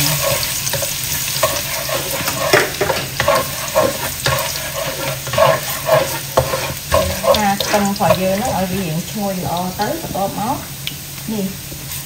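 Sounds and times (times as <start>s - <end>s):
spatula scraping a pan: 0.0s - 10.3s
garlic sizzling in hot oil: 0.0s - 12.0s.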